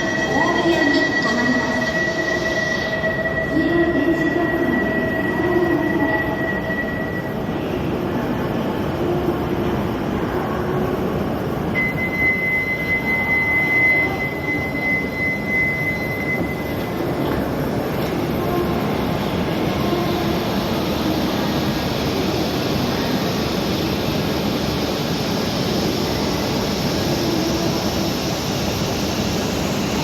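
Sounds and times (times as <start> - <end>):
train rail noise: 0.0 - 30.0.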